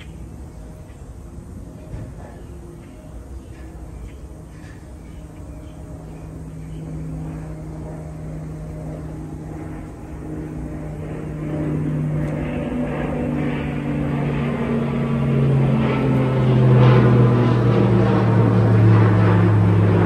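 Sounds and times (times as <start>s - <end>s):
aircraft engine droning overhead: 0.0s - 20.0s.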